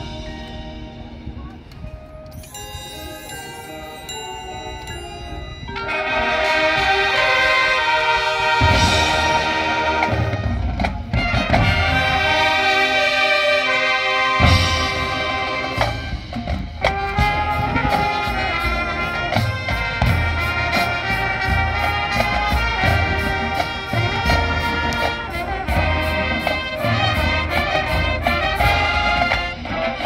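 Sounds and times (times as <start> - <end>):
marching band playing: 0.0 - 30.0.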